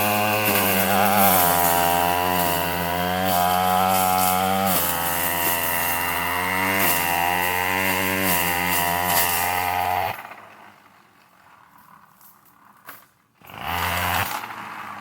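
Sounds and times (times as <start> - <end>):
brush cutter engine cutting brush: 0.0 - 15.0.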